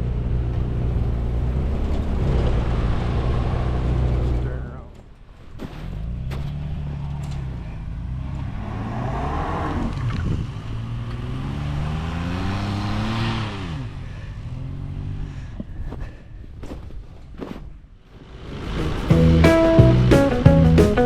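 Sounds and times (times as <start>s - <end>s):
vehicle engine revving: 0.0s - 4.8s, 5.8s - 15.4s, 18.1s - 21.0s.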